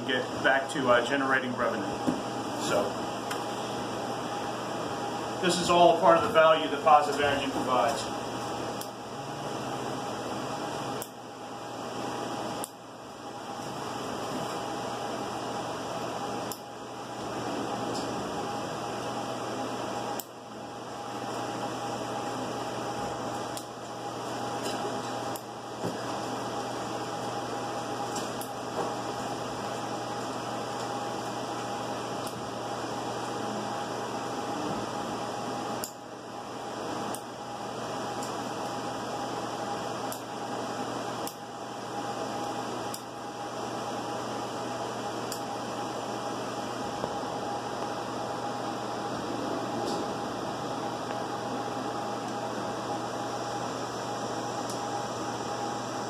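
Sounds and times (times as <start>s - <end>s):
fans whirring: 0.0s - 56.0s.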